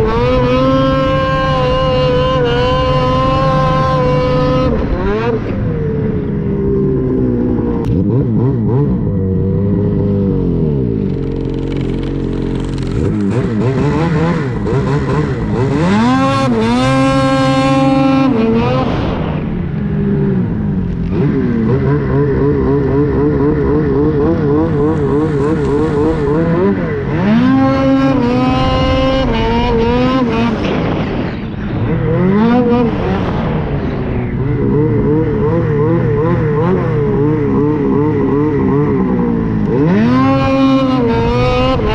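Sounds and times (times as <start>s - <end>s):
snowmobile engine running hard: 0.0s - 41.9s.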